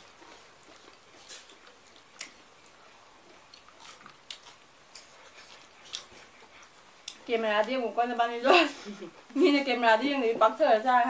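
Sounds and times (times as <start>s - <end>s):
mouths chewing salad: 0.0s - 9.6s.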